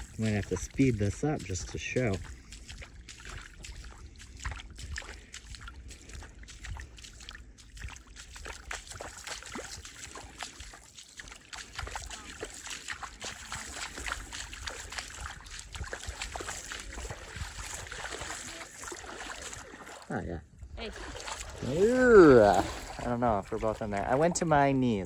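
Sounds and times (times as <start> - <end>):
wind rumble on microphone: 0.0 - 10.2, 13.8 - 25.0
feet splashing in shallow water: 0.0 - 25.0.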